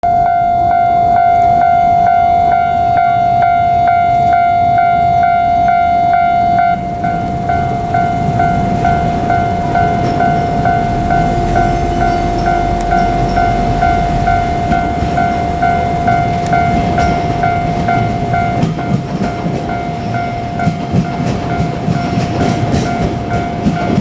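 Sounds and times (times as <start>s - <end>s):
level crossing bell ringing: 0.0s - 24.0s
train rumble: 0.1s - 24.0s.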